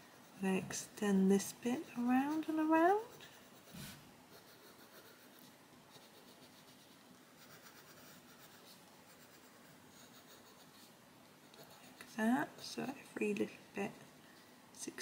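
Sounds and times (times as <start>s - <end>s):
coloured pencil scratching on paper: 0.0s - 13.0s.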